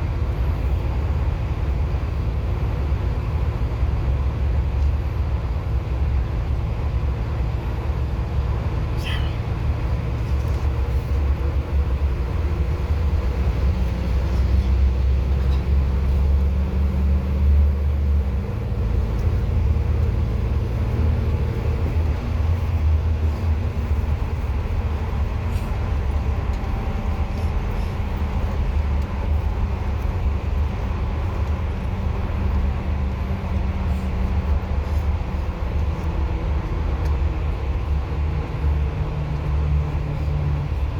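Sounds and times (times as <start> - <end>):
bus engine drone and road noise: 0.0 - 40.9.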